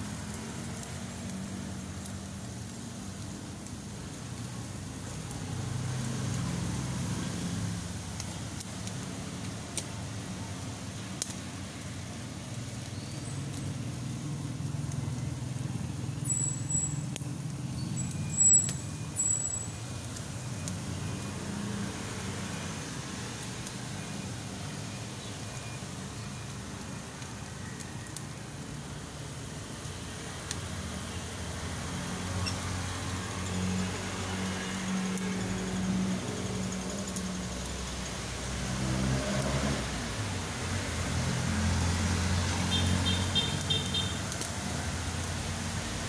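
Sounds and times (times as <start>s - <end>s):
meat grilling over charcoal: 0.0s - 46.0s.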